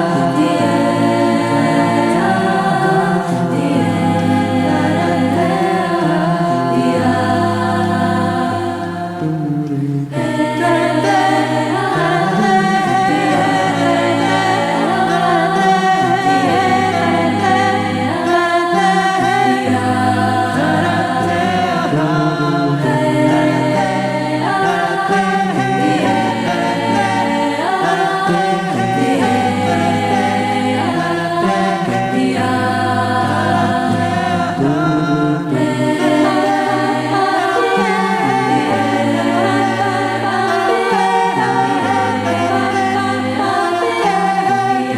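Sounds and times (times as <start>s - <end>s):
a cappella group singing chords: 0.0s - 44.9s.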